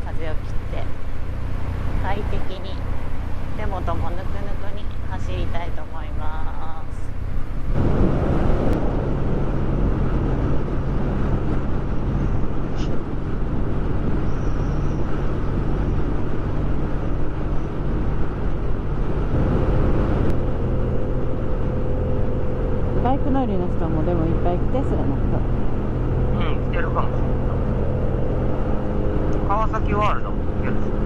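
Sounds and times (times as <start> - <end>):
road noise: 0.0 - 31.0
wind noise: 0.0 - 31.0.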